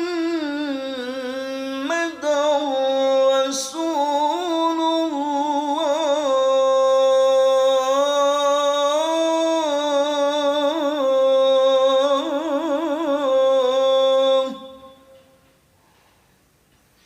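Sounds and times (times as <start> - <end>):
man chanting call to prayer: 0.0 - 15.3.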